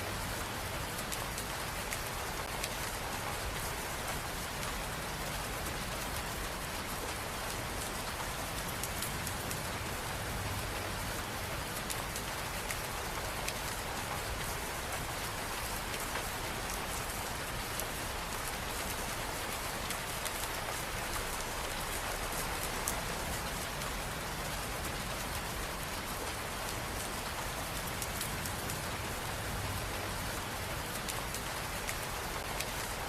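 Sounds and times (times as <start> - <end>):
rain on hard surfaces: 0.0 - 33.0.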